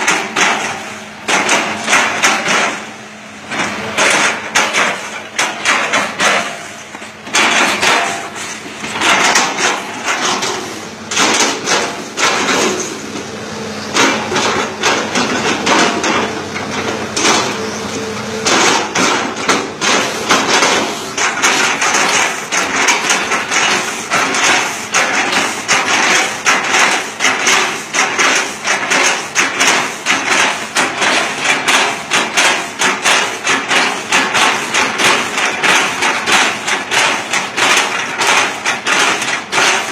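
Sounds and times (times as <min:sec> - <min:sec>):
excavator bucket chopping wood: 0:00.0 - 0:02.9, 0:03.5 - 0:13.0, 0:13.9 - 0:17.7, 0:18.4 - 0:39.9
excavator engine hum: 0:00.0 - 0:39.9.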